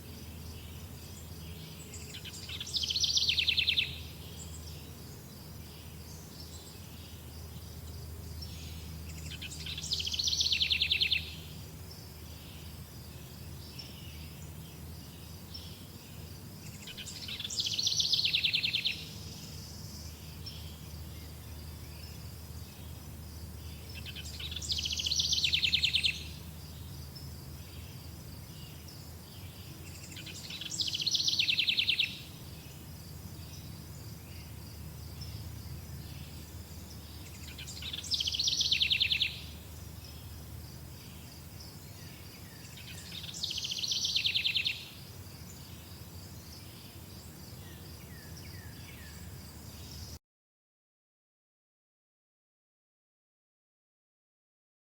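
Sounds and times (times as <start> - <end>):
insects chirping: 0.0 - 50.2.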